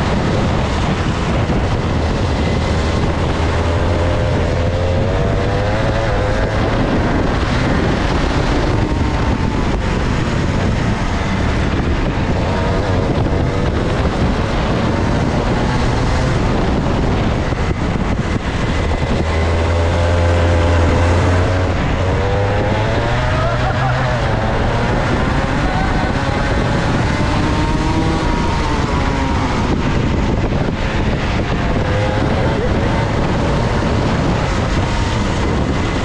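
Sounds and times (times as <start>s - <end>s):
kart engine revving: 0.0s - 36.0s
wind noise on microphone: 0.0s - 36.0s.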